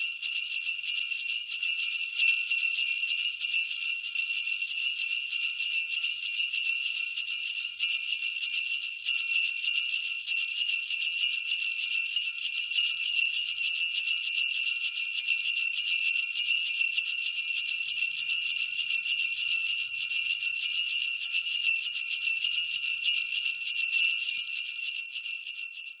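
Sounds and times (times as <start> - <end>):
sleigh bells jingling: 0.0 - 26.0.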